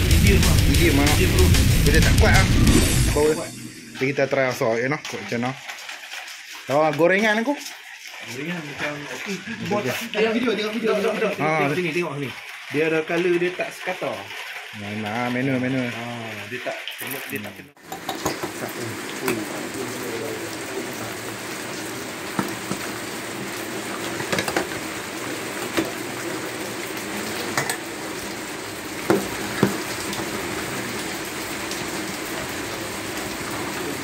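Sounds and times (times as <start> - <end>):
food sizzling in frying: 0.0 - 34.0.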